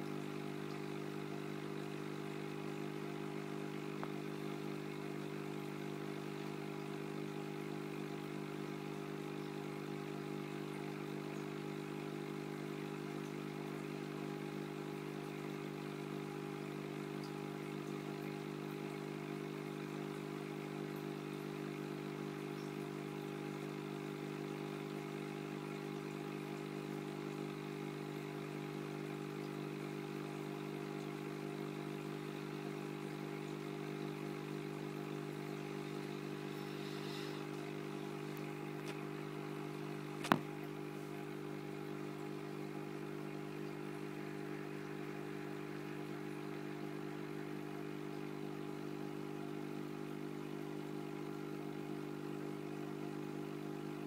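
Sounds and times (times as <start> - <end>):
aquarium pump humming: 0.0 - 54.0.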